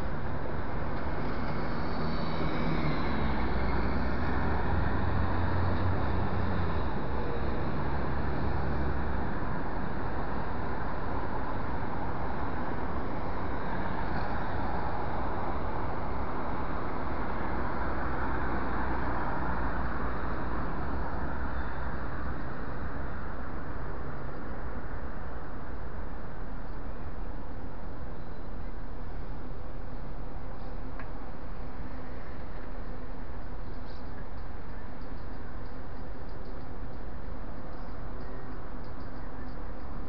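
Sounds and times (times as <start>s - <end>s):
tyre and street noise hiss: 0.0s - 40.0s.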